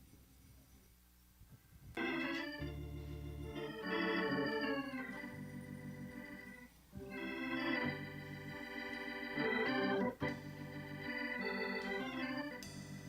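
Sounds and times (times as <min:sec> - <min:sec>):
organ playing sustained chords: 0:02.0 - 0:13.0.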